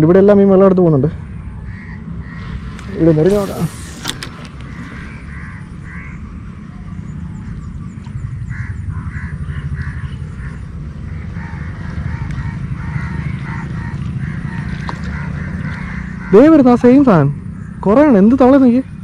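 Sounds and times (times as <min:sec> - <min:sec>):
steady low rumble: 0:00.0 - 0:17.8
frogs croaking: 0:00.2 - 0:19.0.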